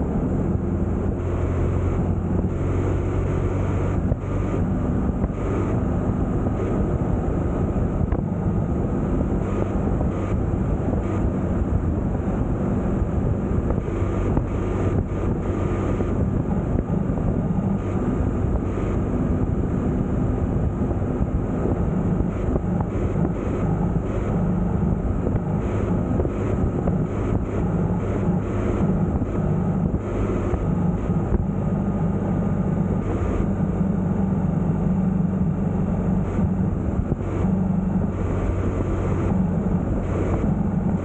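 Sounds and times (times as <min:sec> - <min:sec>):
vehicle engine running: 0:00.0 - 0:41.0
wind on microphone: 0:00.0 - 0:41.0.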